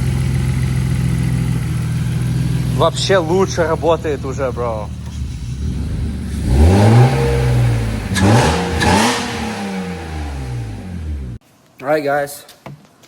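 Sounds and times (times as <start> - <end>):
car engine revving: 0.0 - 11.4.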